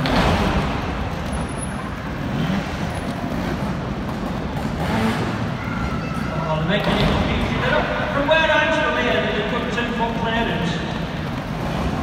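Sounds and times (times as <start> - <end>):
motorcycle engines revving: 0.0 - 12.0
steady background din: 0.0 - 12.0.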